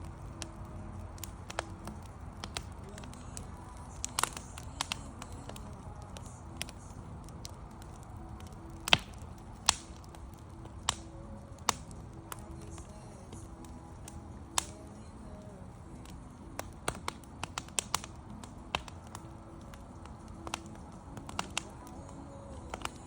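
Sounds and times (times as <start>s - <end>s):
campfire crackling and popping: 0.0s - 23.0s
low steady rumble: 0.0s - 23.0s.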